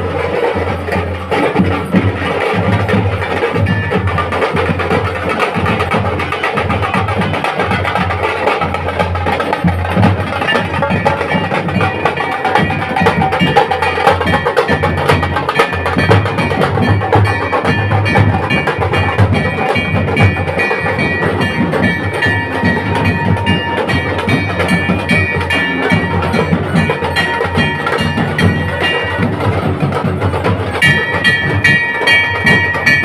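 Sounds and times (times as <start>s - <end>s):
dhol drumming: 0.0s - 33.0s.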